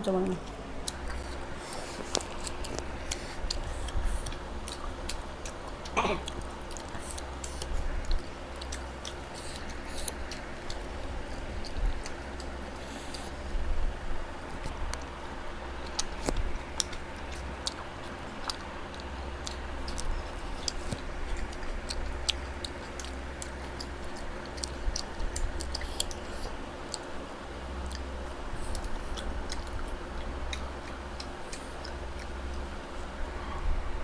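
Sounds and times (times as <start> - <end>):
people chewing and smacking: 0.0 - 34.0
steady low hum: 0.0 - 34.0.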